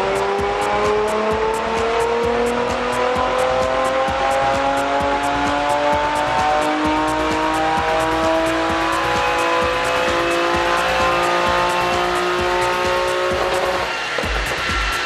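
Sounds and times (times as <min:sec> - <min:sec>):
car engine running on dyno: 0:00.0 - 0:15.0.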